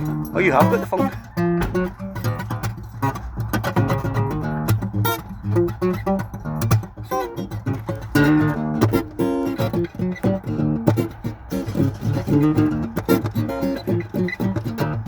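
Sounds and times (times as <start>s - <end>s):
funk guitar strumming: 0.0s - 15.0s.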